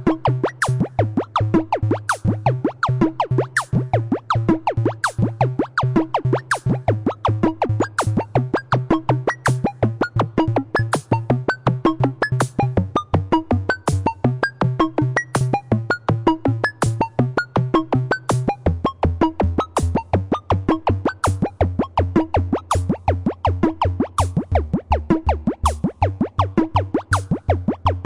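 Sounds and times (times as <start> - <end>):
bouncy synthesizer melody: 0.0 - 28.0
drum machine beat: 0.0 - 28.0
pulsing bass line: 0.0 - 28.0.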